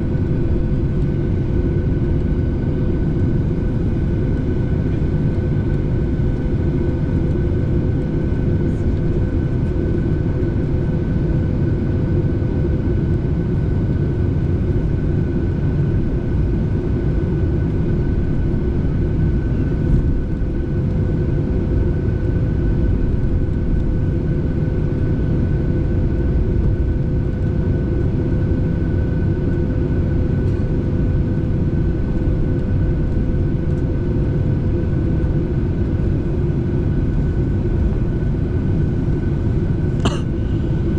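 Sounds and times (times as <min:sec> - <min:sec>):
airliner engine roar in cabin: 0:00.0 - 0:40.9.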